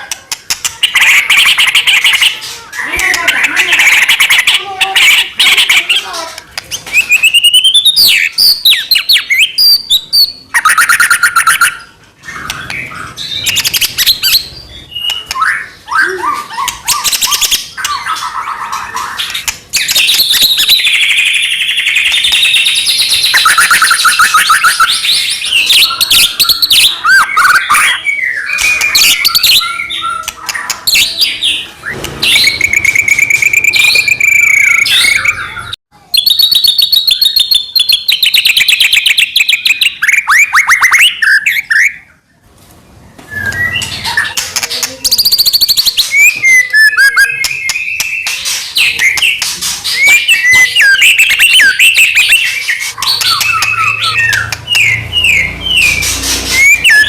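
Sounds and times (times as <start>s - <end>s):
songbird singing: 0.3s - 42.4s, 43.1s - 57.0s.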